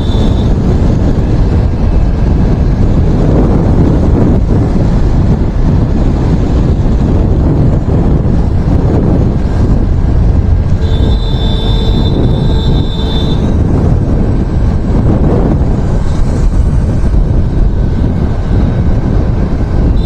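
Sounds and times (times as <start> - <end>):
vehicle road noise: 0.0 - 20.0
wind rumble on microphone: 0.0 - 20.0.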